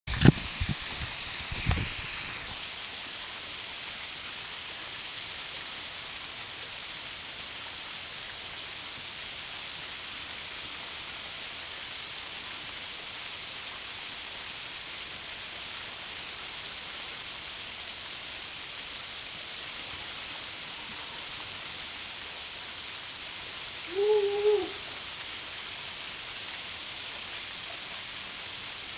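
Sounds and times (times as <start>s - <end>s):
waterfall splashing: 0.1s - 28.9s.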